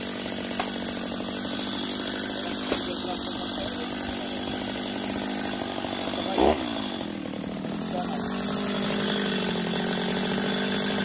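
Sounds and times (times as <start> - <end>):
chainsaw rev: 0.0 - 11.0
chainsaw running: 0.0 - 11.0.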